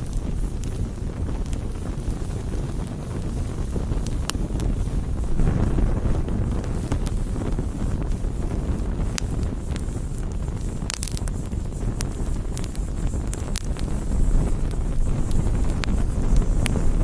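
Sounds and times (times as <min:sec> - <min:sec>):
burning wood crackling: 0:00.0 - 0:17.0
wind rumble on microphone: 0:00.0 - 0:17.0.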